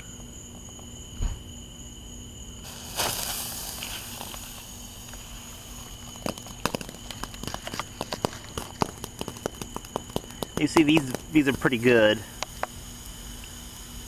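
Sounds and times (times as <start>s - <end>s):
sparkler crackling pops: 2.6s - 14.0s
sparkler hissing: 2.6s - 14.0s.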